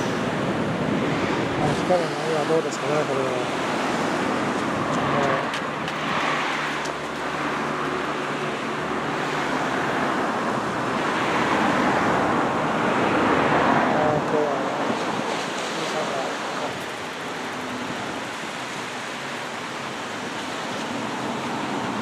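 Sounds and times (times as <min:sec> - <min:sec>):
passing road traffic: 0:00.0 - 0:22.0
small surf: 0:00.0 - 0:22.0
wind: 0:00.0 - 0:22.0.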